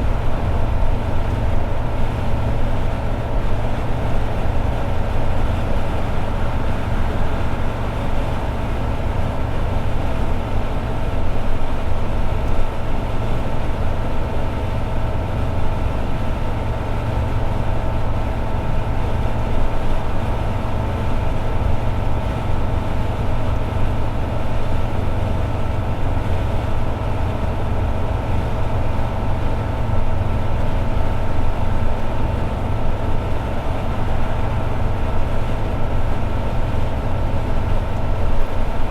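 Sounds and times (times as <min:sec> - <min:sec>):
car engine drone: 0:00.0 - 0:38.9
road noise rumble: 0:00.0 - 0:38.9.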